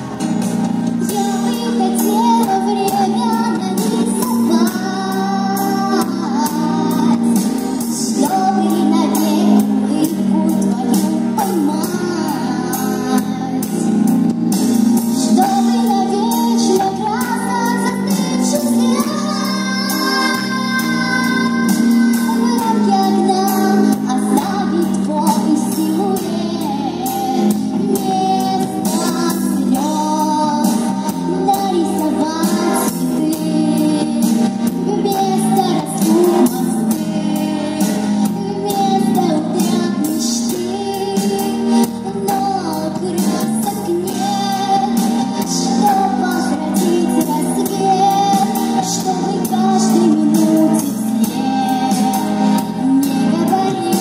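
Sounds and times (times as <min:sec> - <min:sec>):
instrumental backing music: 0:00.0 - 0:54.0
girl singing into microphone: 0:00.8 - 0:54.0.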